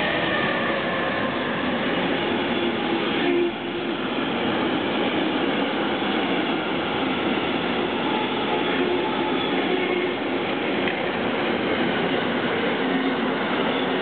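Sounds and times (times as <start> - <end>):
train wheel-on-rail noise: 0.0 - 14.0.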